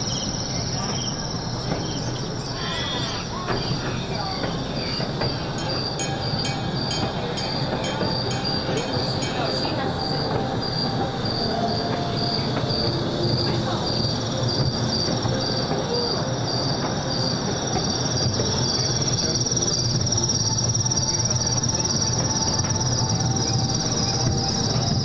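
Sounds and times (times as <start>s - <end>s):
insect chirping: 0.0s - 25.0s
insect trill: 0.0s - 25.0s
train rumble and rattle: 0.0s - 25.0s.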